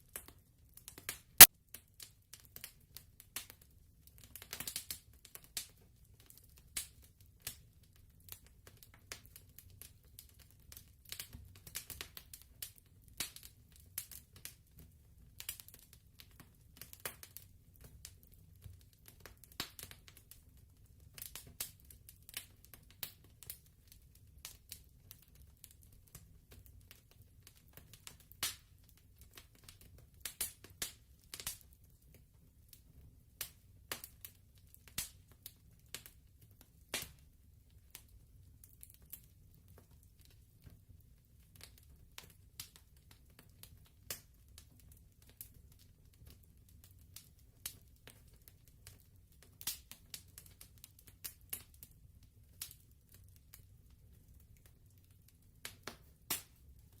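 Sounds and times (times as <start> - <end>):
fire crackling and popping: 0.1 - 57.0.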